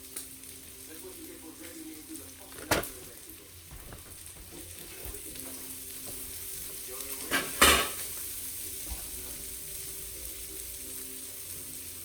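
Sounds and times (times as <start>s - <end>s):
sausage sizzling in a frying pan: 0.0s - 12.0s.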